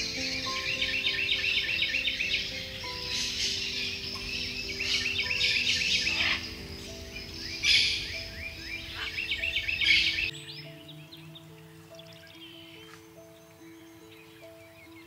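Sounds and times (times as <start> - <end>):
birds chirping in trills: 0.0 - 15.0
soft music of held notes: 0.0 - 15.0.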